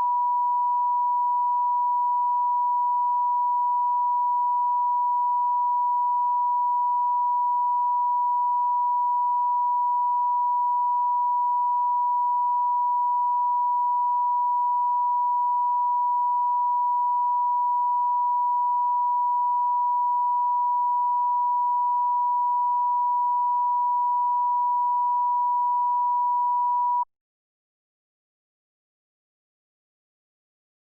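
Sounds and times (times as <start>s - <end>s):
sine test tone: 0.0s - 27.1s.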